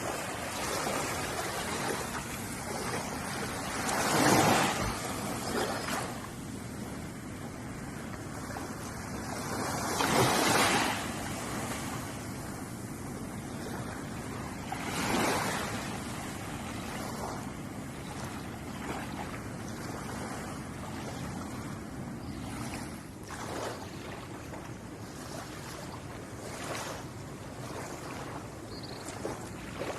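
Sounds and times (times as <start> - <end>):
waves breaking: 0.0 - 29.9.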